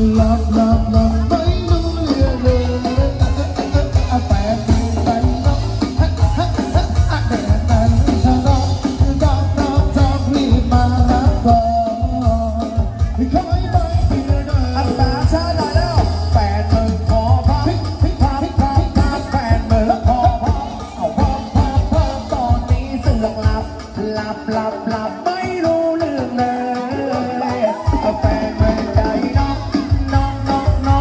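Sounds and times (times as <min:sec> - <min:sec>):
band music with singer: 0:00.0 - 0:31.0.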